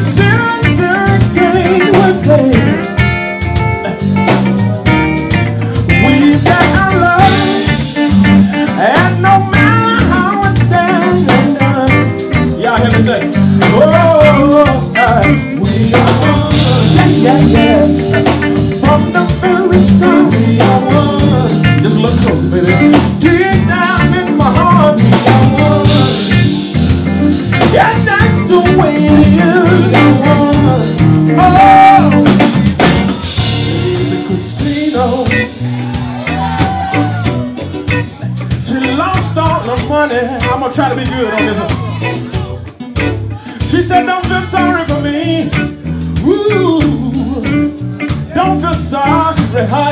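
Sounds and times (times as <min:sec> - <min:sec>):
person singing into a microphone: 0:00.0 - 0:03.0, 0:05.8 - 0:26.7, 0:27.6 - 0:37.2, 0:38.4 - 0:49.9
drum kit: 0:00.0 - 0:49.9
electric guitar: 0:00.0 - 0:49.9
keyboard: 0:00.0 - 0:49.9.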